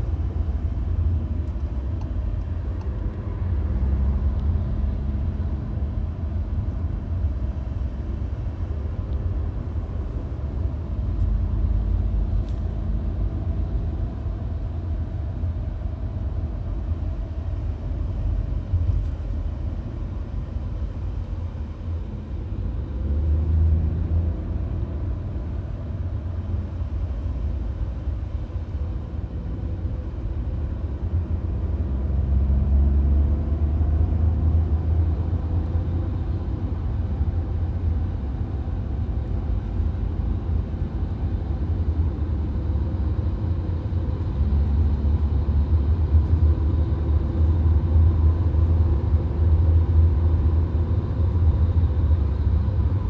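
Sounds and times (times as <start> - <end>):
car road noise rumble: 0.0 - 53.0.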